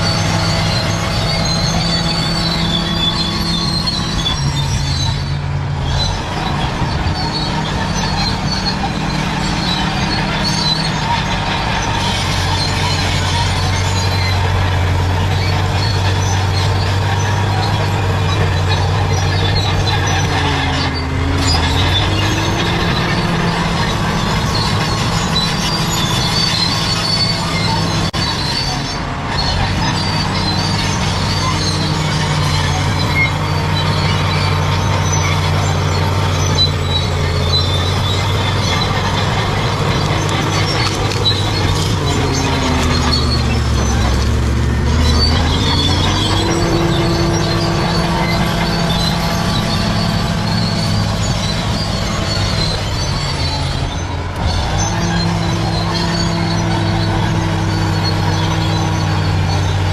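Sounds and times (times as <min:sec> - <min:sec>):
bulldozer diesel engine: 0:00.0 - 0:59.9
steel tracks squealing: 0:00.0 - 0:59.9.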